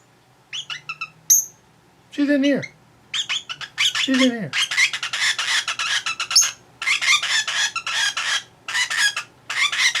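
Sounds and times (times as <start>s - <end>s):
lovebird chattering: 0.5s - 1.6s, 2.6s - 10.0s.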